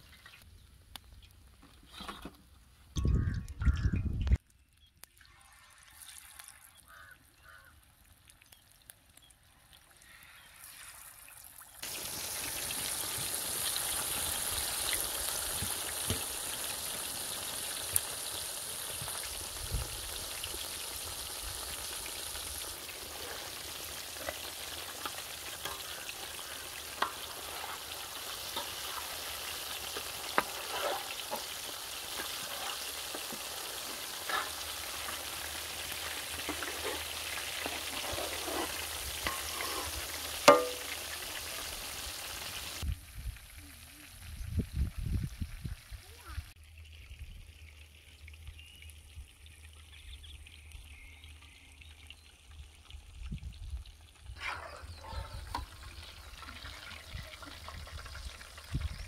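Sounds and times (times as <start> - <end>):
oil sizzling with pops: 0.0 - 59.0.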